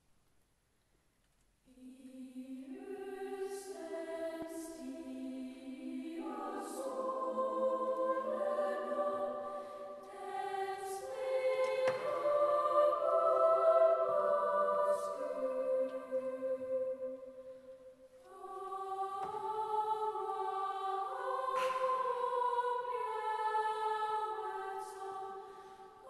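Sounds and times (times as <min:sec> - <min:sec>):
female choir singing: 0:01.7 - 0:26.0.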